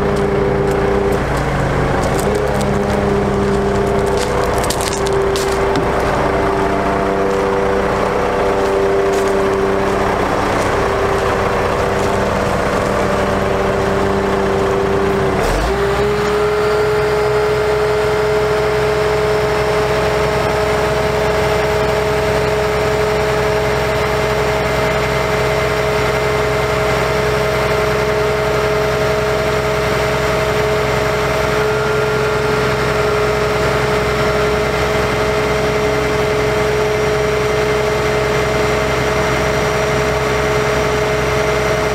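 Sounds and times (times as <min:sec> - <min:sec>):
diesel engine hydraulic whine: 0:00.0 - 0:41.9.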